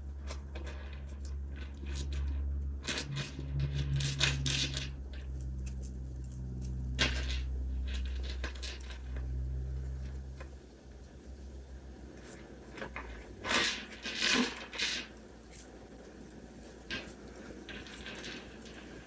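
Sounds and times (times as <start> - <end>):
steady low hum: 0.0 - 19.0
yarn rustling and scratching: 0.0 - 19.0.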